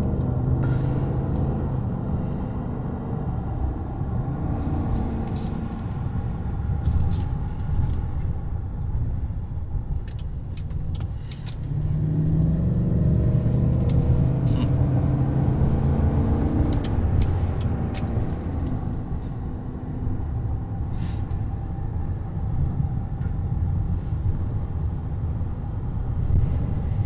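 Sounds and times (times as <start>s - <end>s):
car engine running: 0.0s - 27.0s
road and tyre rumble: 0.0s - 27.0s.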